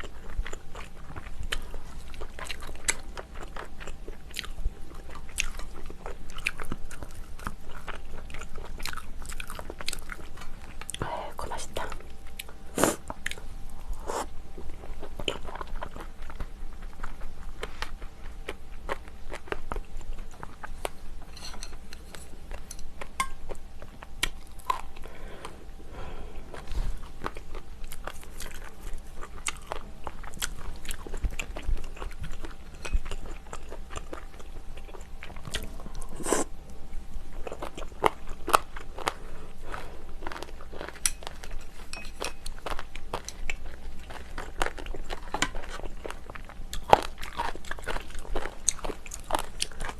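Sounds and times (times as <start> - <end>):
person chewing and biting: 0.0 - 11.0, 14.0 - 25.2, 26.4 - 36.5, 37.3 - 49.9.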